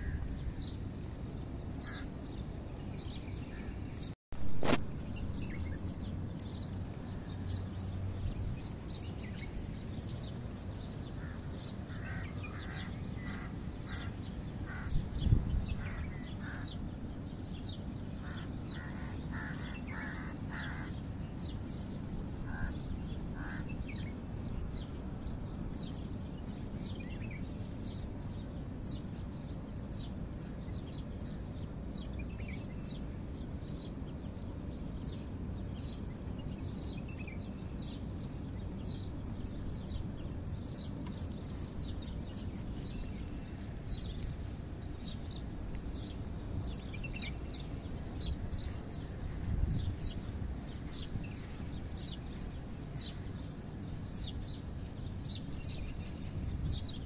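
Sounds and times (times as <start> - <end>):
birds chirping and calling: 0.0 - 57.0
low ambient noise: 0.0 - 57.0.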